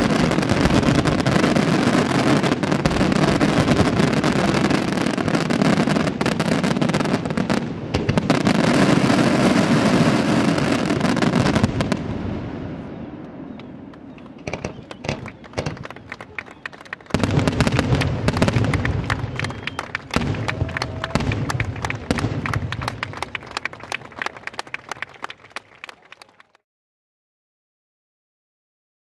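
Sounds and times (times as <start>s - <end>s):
fireworks bangs and crackling: 0.0s - 25.5s.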